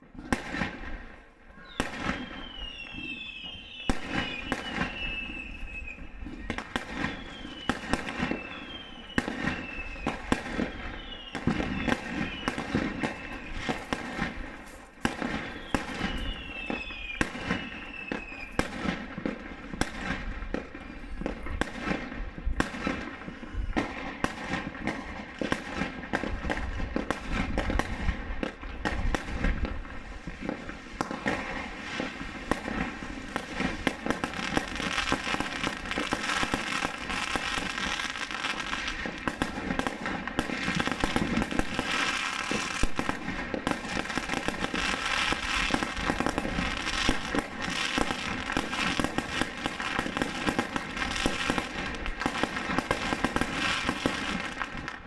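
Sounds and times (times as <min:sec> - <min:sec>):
fireworks bangs and crackles: 0:00.0 - 0:55.0
falling firework whistles: 0:01.5 - 0:54.9.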